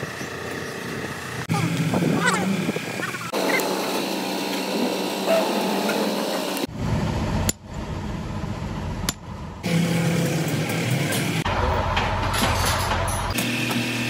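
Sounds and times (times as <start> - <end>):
workshop noise: 0.0 - 14.0.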